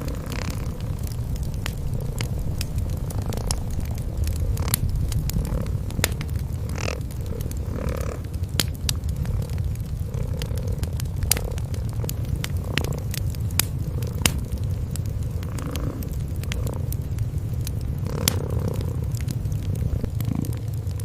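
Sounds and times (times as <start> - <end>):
cats purring: 0.0 - 21.0
wood fire crackling: 0.0 - 21.0.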